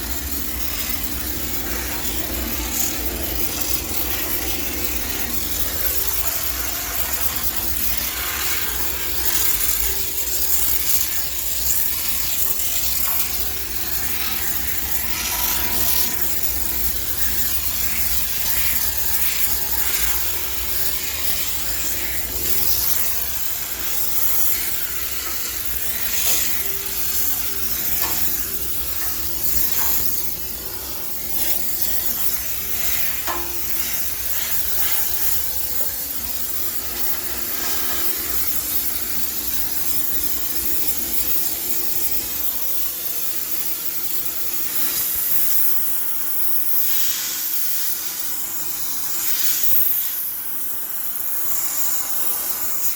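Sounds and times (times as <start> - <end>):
steam sterilizer hissing: 0.0 - 52.9.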